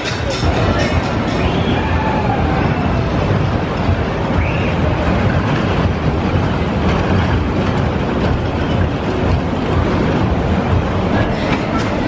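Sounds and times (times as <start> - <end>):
ride cars rumbling on steel track: 0.0 - 12.0.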